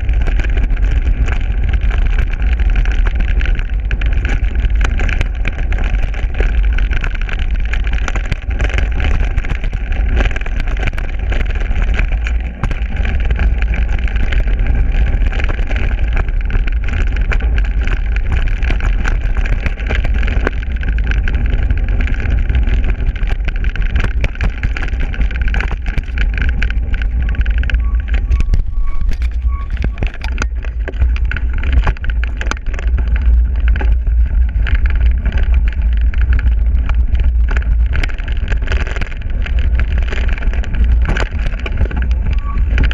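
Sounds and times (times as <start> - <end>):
bike clicks and rattles: 0.0 - 42.9
tyres rolling over dirt trail: 0.0 - 42.9
wind buffeting microphone: 0.0 - 42.9.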